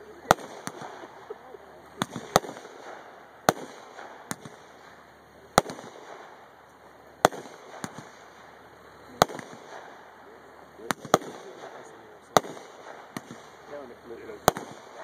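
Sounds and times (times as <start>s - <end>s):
faint firework pops: 0.0s - 1.4s, 2.0s - 15.0s
firework shells banging: 0.0s - 15.0s.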